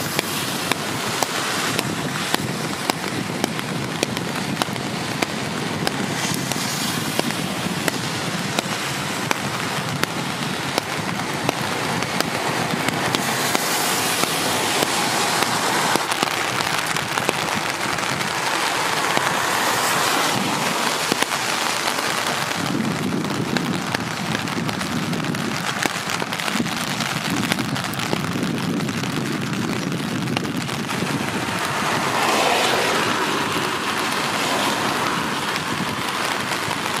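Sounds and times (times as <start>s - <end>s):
rain falling: 0.0s - 37.0s
raindrops ticking on a surface: 0.0s - 37.0s.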